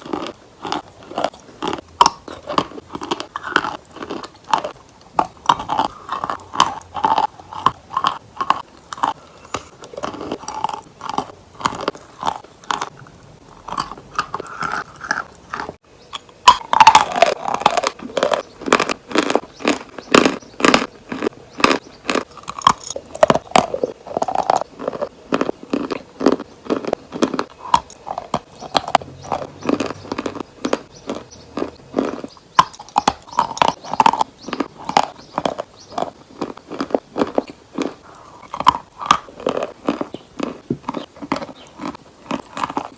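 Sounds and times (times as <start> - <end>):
crunchy chewing and biting: 0.0 - 42.9.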